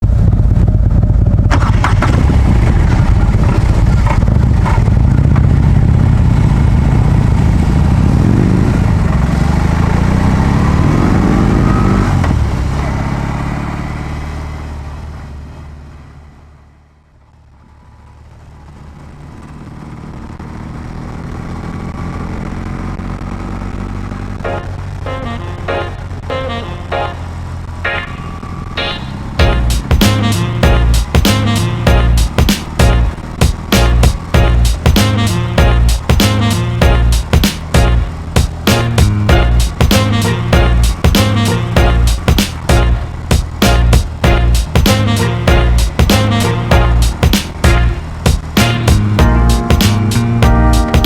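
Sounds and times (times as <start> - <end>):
motorcycle engine revving: 0.0 - 15.8, 18.1 - 51.0.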